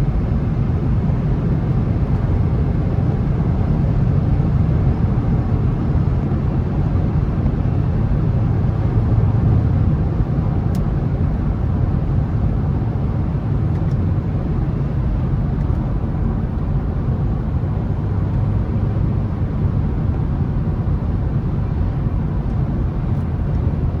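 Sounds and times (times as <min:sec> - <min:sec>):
car engine low rumble: 0:00.0 - 0:24.0
road noise: 0:00.0 - 0:24.0.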